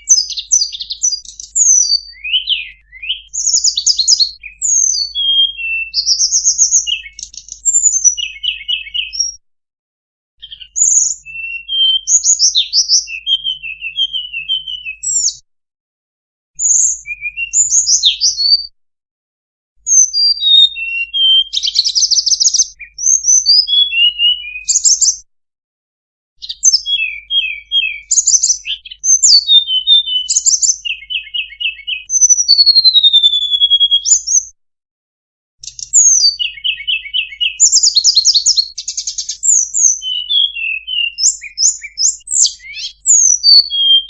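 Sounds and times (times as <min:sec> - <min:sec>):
bird twittering chirps and trills: 0:00.0 - 0:09.4, 0:10.4 - 0:15.4, 0:16.6 - 0:18.7, 0:19.9 - 0:25.2, 0:26.4 - 0:34.5, 0:35.6 - 0:44.0.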